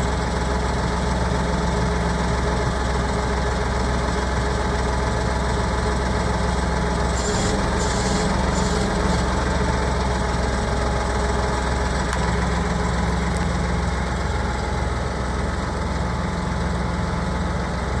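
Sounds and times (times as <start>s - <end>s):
tractor diesel engine idling: 0.1s - 18.0s.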